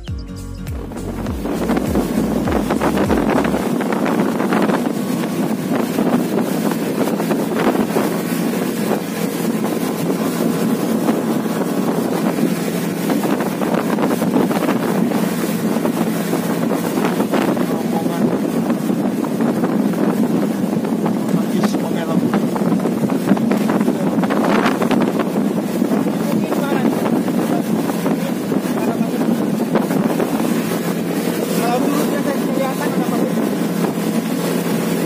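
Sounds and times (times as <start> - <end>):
outboard motor drone: 0.0 - 35.0
water rushing against hull: 0.7 - 35.0
wind buffeting microphone: 0.8 - 35.0.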